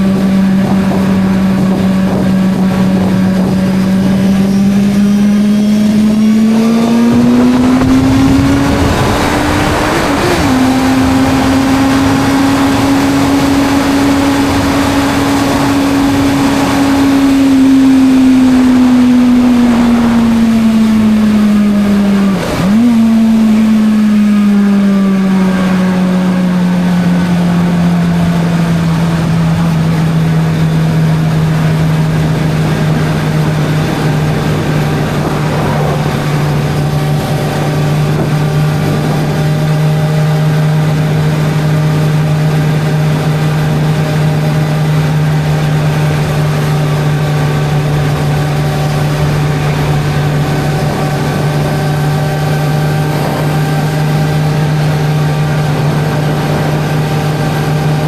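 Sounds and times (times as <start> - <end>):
motorcycle engine cruising: 0.0 - 58.0
rushing wind: 0.0 - 58.0.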